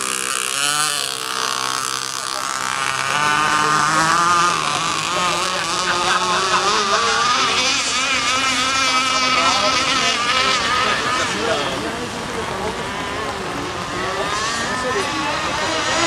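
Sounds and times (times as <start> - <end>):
model boat motor running: 0.0 - 16.0.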